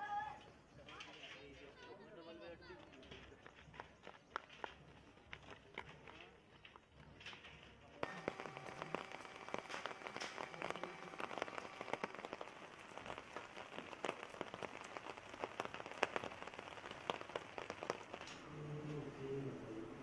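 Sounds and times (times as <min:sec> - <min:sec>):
rain pattering on hard surface: 0:02.8 - 0:19.2.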